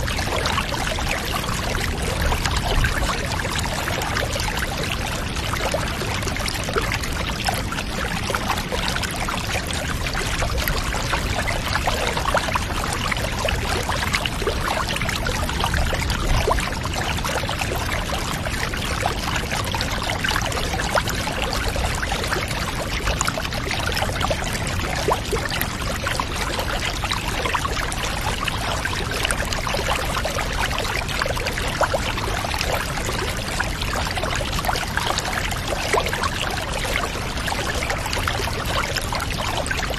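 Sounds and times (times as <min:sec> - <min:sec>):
water pouring: 0:00.0 - 0:39.9.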